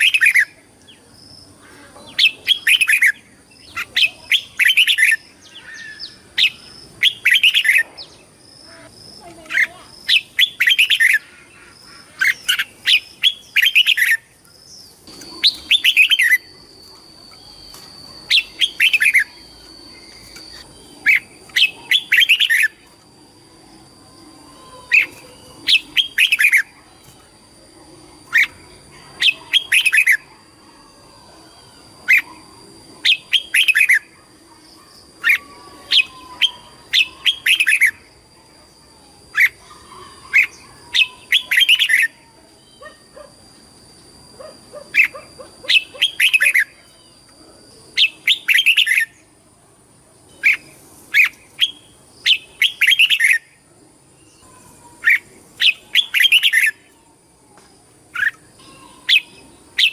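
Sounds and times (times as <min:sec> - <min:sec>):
bird singing warbled phrases: 0:00.0 - 0:43.6, 0:44.3 - 0:49.4, 0:50.3 - 0:59.9.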